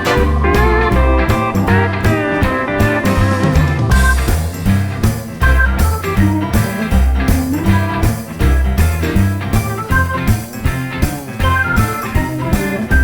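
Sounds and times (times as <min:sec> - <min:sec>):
blues-rock guitar music: 0:00.0 - 0:13.0.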